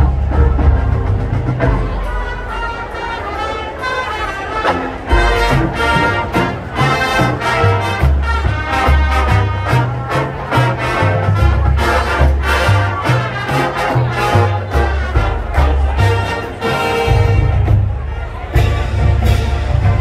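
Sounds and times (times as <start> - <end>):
brass band playing swing tune: 0.0 - 20.0.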